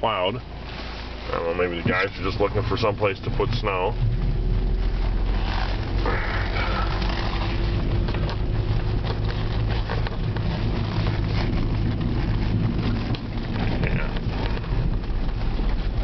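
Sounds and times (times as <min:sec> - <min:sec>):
car driving rumble from cabin: 0:00.0 - 0:16.0
small clicks and crackles: 0:00.7 - 0:16.0.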